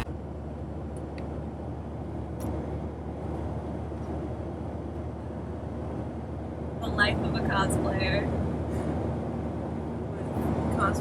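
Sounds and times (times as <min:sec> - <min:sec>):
car interior engine and road noise: 0:00.0 - 0:11.0.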